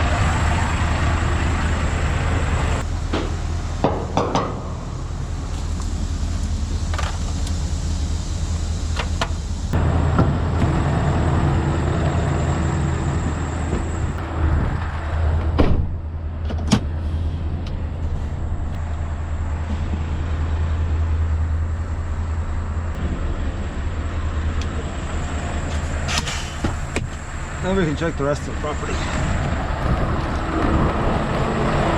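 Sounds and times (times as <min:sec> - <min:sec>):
truck engine droning: 0:00.0 - 0:31.9.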